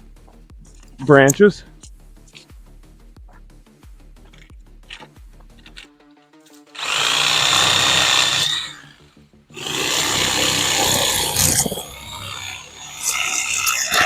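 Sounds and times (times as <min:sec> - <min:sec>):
reciprocating saw cutting branches: 0:00.6 - 0:02.5, 0:04.2 - 0:14.0.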